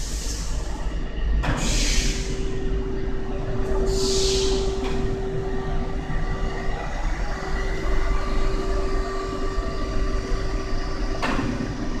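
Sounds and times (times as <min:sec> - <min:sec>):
machinery rumbling and droning: 0:00.0 - 0:12.0.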